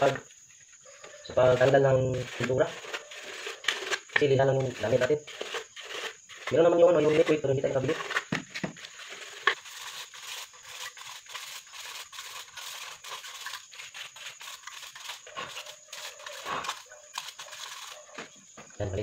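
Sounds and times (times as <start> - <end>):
sandpaper scratching a metal can: 1.4 - 18.2.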